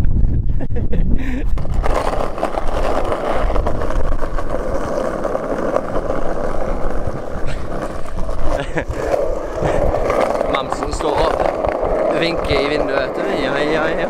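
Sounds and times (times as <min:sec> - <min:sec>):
skateboard wheels rolling on asphalt: 0:01.2 - 0:14.0.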